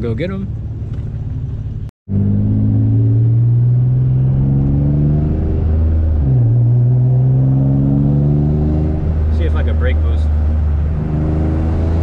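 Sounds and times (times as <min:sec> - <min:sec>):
car engine accelerating: 0:00.7 - 0:12.0.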